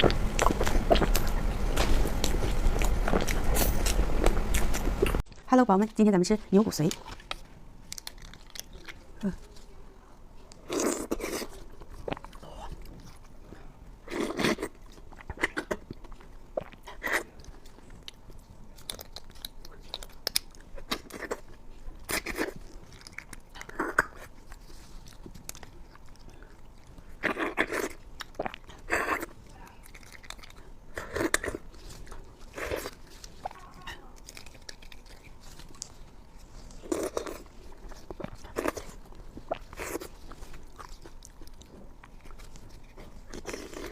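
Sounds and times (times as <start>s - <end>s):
crunchy chewing: 0.0s - 5.4s, 6.8s - 9.8s, 10.4s - 43.9s.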